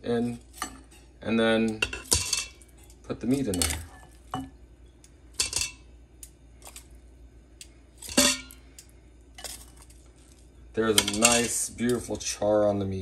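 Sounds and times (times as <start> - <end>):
metal tongs clinking on pot: 0.1 - 4.5, 5.4 - 6.9, 7.6 - 12.3.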